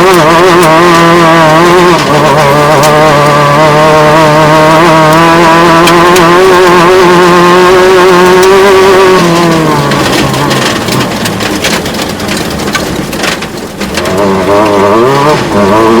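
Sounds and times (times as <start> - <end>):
sharp clicks and crackles: 0.0 - 3.4, 5.1 - 15.8
engine revving: 0.0 - 16.0
off-road vehicle engine running: 0.0 - 16.0.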